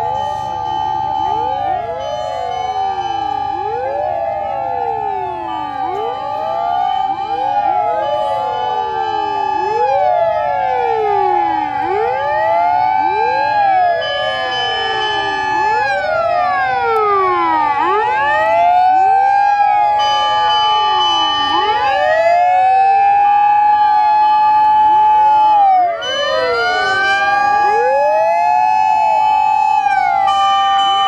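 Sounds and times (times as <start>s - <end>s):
steady siren tone: 0.0s - 31.0s
wailing fire sirens: 0.0s - 31.0s.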